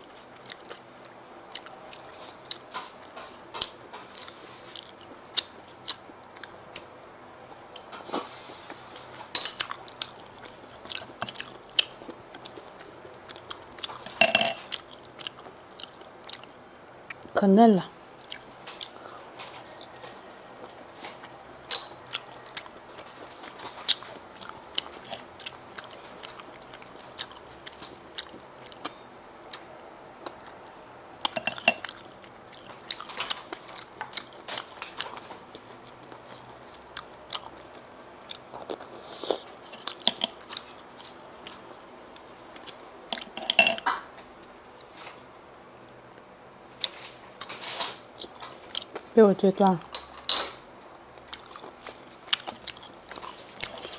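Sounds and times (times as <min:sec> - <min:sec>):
wet chewing and smacking: 0:00.2 - 0:07.9, 0:09.6 - 0:17.4, 0:18.2 - 0:44.9, 0:45.8 - 0:49.1, 0:50.9 - 0:53.9.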